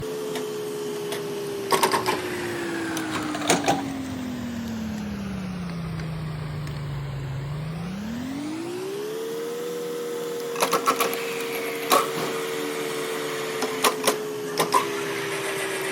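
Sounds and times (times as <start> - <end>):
lathe motor whine: 0.0 - 15.9.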